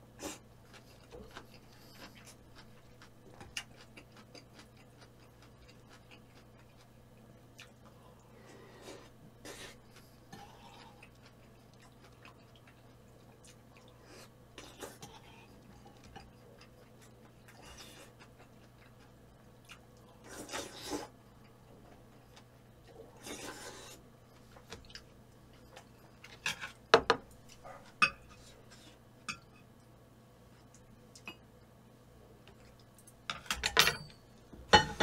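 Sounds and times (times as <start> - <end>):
quiet chewing: 0.2 - 29.0, 29.6 - 31.8, 32.4 - 33.2.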